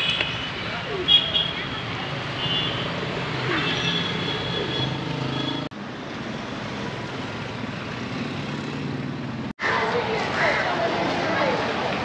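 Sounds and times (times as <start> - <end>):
street traffic hum: 0.0 - 12.0
motorbike engines passing: 0.2 - 12.0.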